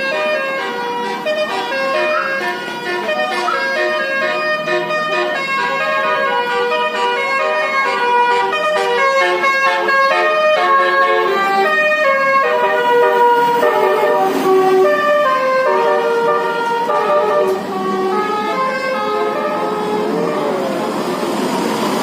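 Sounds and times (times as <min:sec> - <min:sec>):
multi-tone air horn melody: 0:00.0 - 0:20.8.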